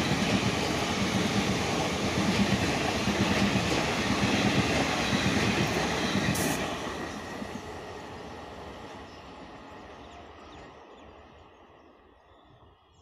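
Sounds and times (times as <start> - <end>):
train coaches rumbling on track: 0.0 - 13.0.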